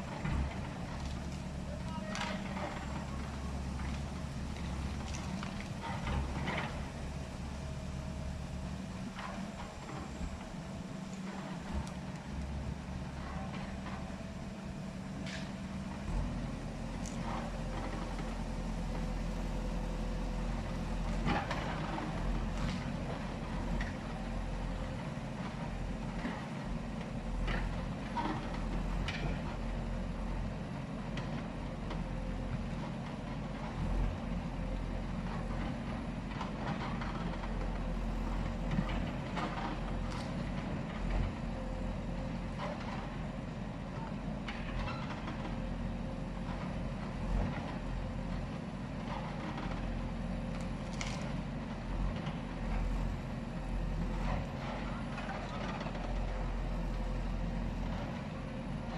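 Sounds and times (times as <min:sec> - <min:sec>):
heavy vehicle engine running: 0:00.0 - 0:58.9.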